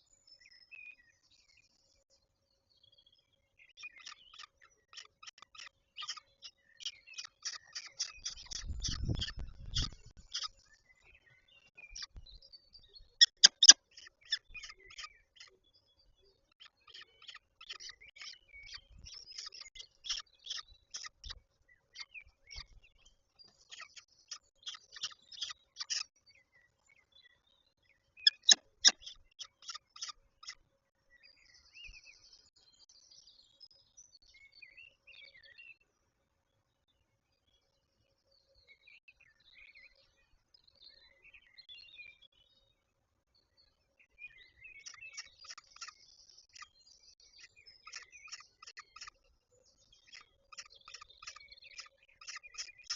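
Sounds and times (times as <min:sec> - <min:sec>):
quiet bird chirps: 0:00.0 - 0:52.9.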